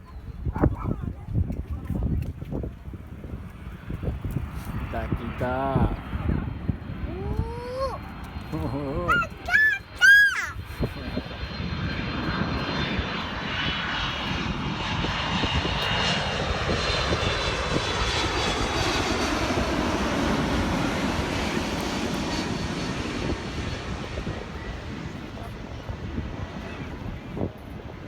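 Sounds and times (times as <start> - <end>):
jet airliner flying overhead: 0.0 - 28.0.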